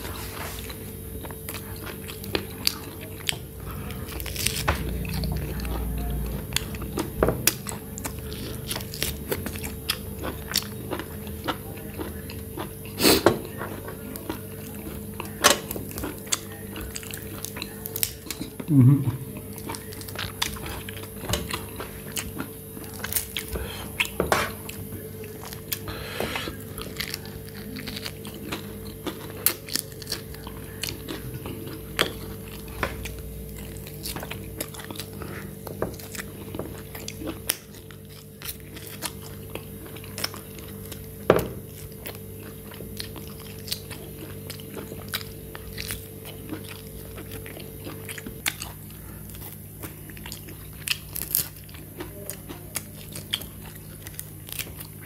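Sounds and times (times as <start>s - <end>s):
chewing and crunching bones: 0.0s - 55.0s
faint steady hum: 0.0s - 55.0s.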